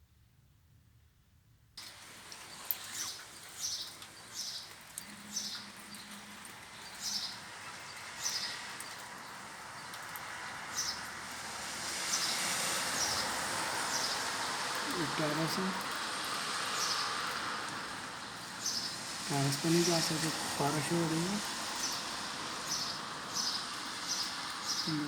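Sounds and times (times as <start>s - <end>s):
hiss of falling rain: 1.8s - 25.0s.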